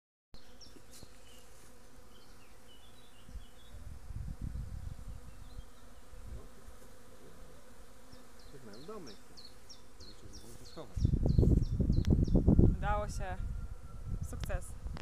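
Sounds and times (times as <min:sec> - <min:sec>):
honeybees buzzing: 0:00.4 - 0:15.0.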